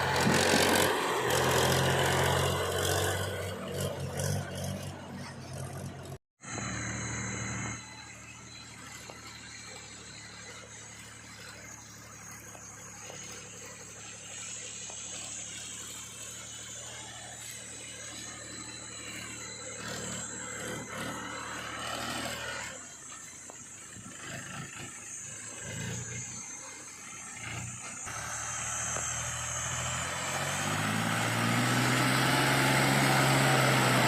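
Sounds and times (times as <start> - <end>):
heavy machinery diesel engine: 0.0 - 34.0.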